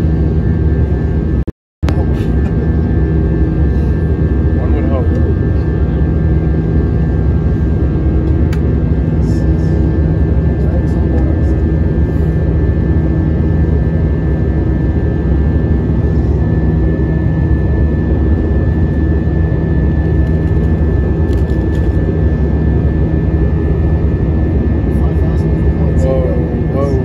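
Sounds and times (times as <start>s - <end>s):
high engine whine: 0.0s - 27.0s
jet engines rumbling in cabin: 0.0s - 27.0s.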